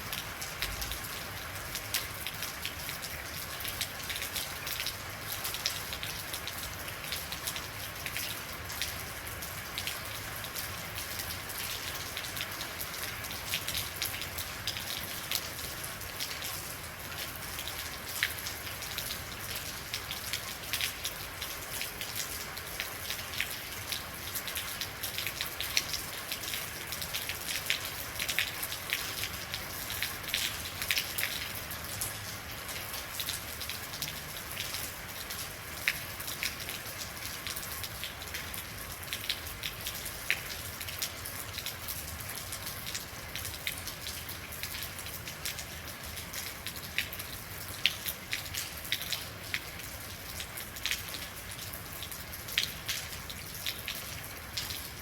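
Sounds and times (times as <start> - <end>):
rain drops pattering on hard surfaces: 0.0 - 55.0.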